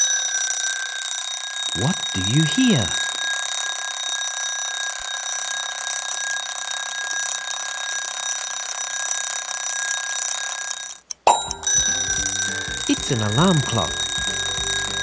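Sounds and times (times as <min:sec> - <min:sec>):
alarm clock bells ringing: 0:00.0 - 0:15.0.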